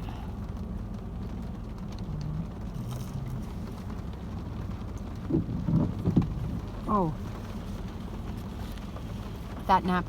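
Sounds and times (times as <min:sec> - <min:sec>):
low rumble inside car: 0:00.0 - 0:10.0
rain tapping on car: 0:00.0 - 0:10.0.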